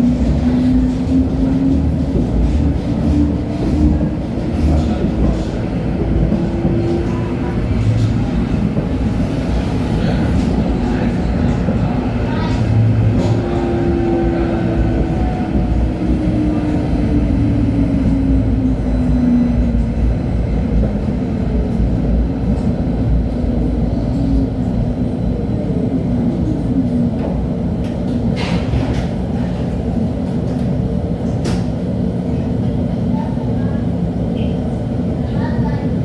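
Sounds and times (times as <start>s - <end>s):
rumble of wheels on rail: 0.0s - 36.0s.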